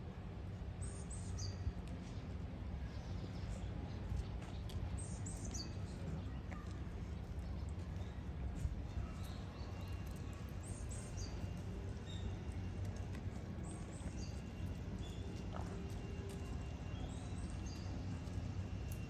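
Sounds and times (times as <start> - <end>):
steady low rumble: 1.6 - 19.0
small birds chirping: 3.0 - 19.0.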